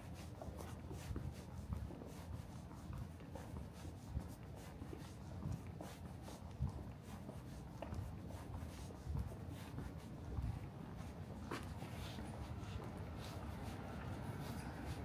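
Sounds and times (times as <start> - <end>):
low city rumble: 0.0 - 15.0
soft uneven footsteps: 0.0 - 15.0.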